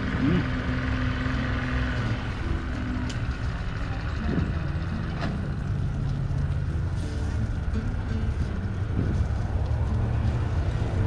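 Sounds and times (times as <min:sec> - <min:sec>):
motor engine drone: 0:00.0 - 0:11.0.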